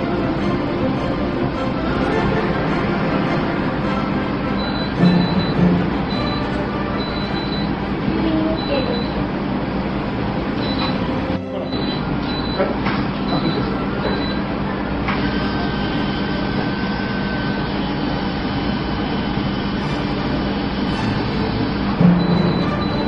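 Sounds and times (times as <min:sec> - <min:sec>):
surgical motor humming with whine: 0:00.0 - 0:23.0.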